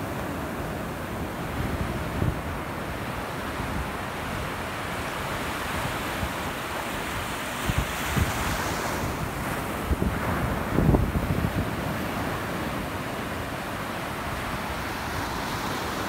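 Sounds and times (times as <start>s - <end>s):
waves breaking on beach: 0.0s - 16.0s
wind gusts on microphone: 0.0s - 16.0s.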